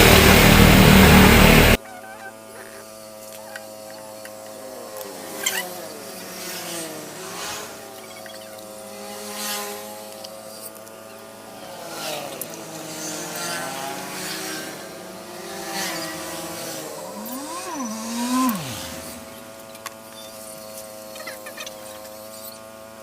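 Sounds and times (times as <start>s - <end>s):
vehicle engines passing and revving: 0.0s - 1.8s, 3.0s - 22.6s.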